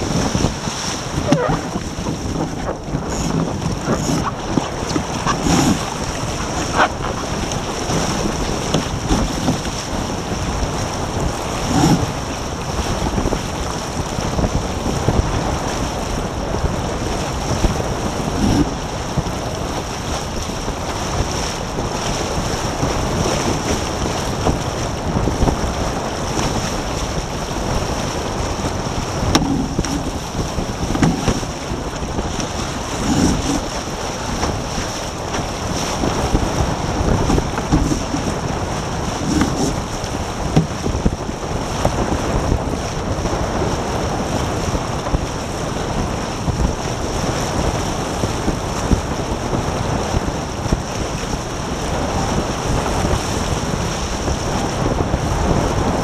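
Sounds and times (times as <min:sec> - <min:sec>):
water rushing along hulls: 0:00.0 - 0:56.0
wind buffeting microphone: 0:00.0 - 0:56.0.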